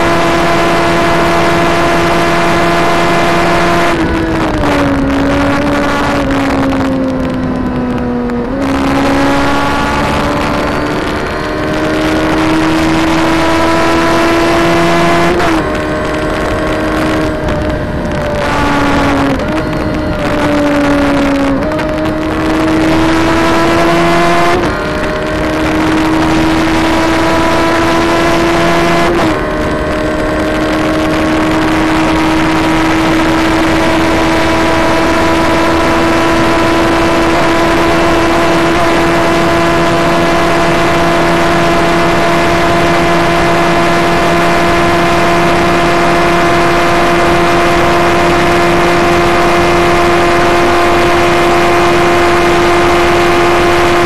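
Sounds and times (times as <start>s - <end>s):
motorcycle engine accelerating: 0.0s - 54.0s
wind rushing: 2.9s - 51.2s.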